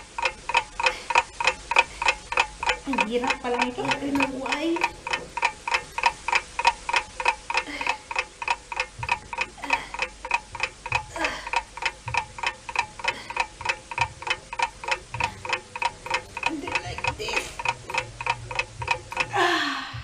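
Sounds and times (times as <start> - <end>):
clock ticking fast: 0.0 - 20.0.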